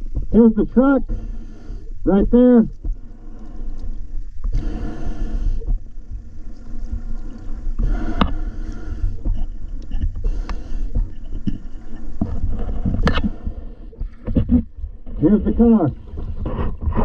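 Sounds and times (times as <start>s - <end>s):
steady low rumble: 0.0s - 17.0s
water sloshing and splashing: 0.0s - 17.0s.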